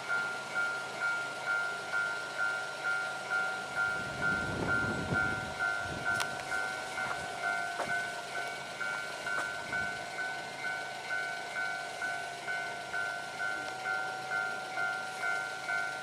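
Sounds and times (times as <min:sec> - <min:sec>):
level-crossing warning bell: 0:00.0 - 0:16.0
passing train rumble: 0:00.0 - 0:16.0.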